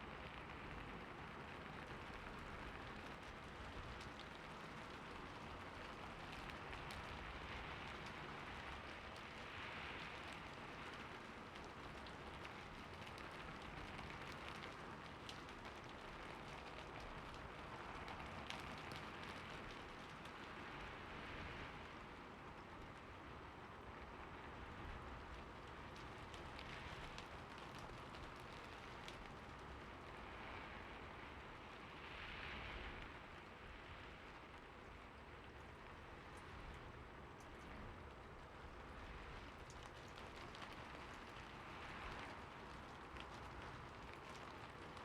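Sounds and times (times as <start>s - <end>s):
light rain falling: 0.0s - 45.0s.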